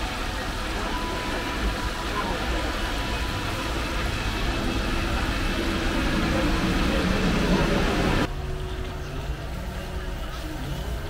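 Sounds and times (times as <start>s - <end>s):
low hum: 0.1s - 10.1s.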